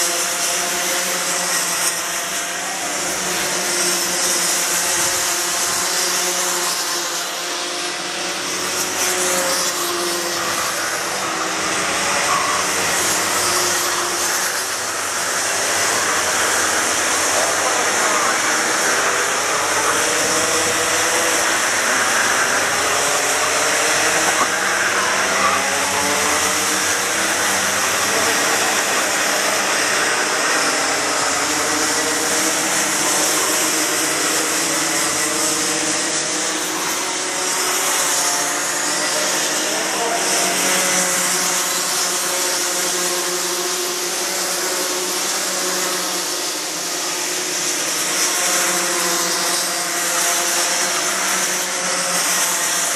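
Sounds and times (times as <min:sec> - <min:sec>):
kart engines buzzing: 0:00.0 - 0:52.9.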